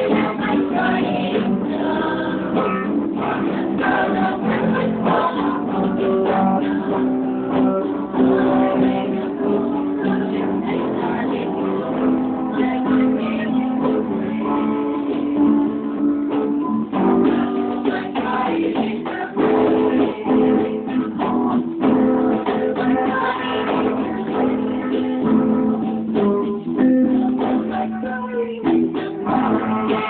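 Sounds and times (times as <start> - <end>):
acoustic band playing: 0.0 - 30.0
strummed acoustic guitar: 0.0 - 30.0.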